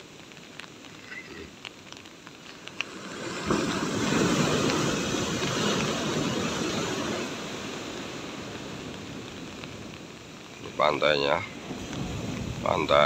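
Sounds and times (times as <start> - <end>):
wave breaking and rushing up shore: 0.0 - 13.0.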